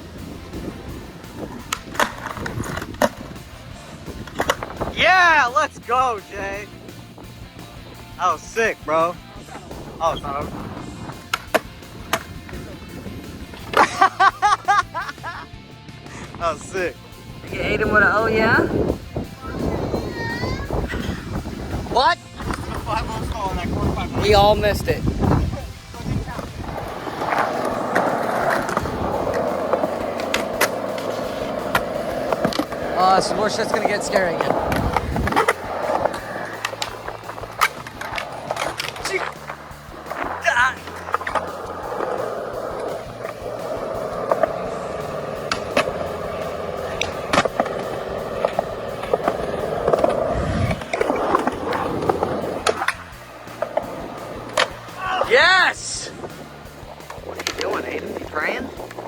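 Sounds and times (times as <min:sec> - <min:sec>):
skateboard clacks: 0:00.0 - 0:08.1, 0:09.4 - 0:15.4, 0:22.4 - 0:23.6, 0:26.3 - 0:59.0
skateboard wheels rolling: 0:00.0 - 0:59.0.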